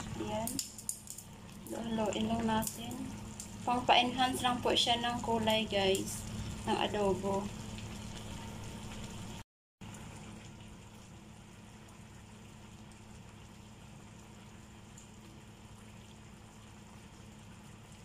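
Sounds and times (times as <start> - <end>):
sauce bubbling in a pan: 0.0 - 18.0.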